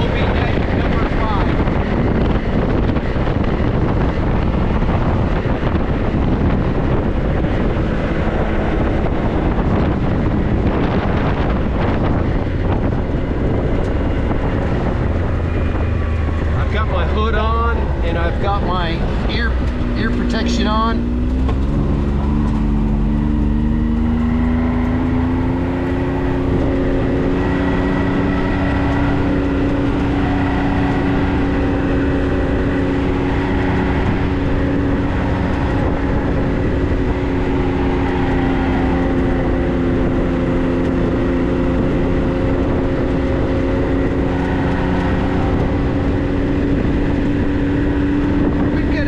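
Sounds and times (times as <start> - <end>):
vehicle engine droning: 0.0 - 49.0.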